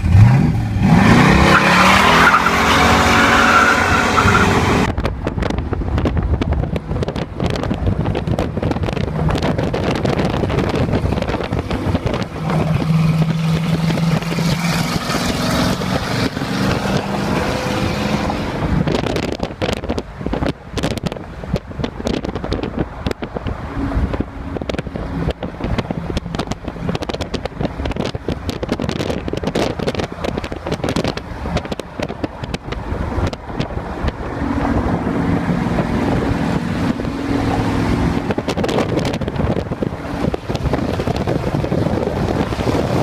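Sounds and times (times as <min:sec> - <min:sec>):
car engine running hard: 0:00.0 - 0:43.0.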